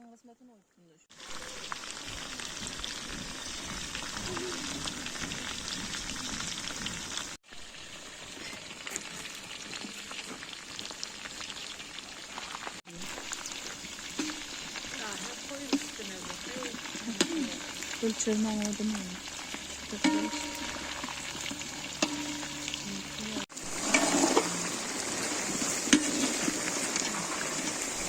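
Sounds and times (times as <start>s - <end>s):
oil sizzling and spitting in a pan: 1.1s - 28.0s.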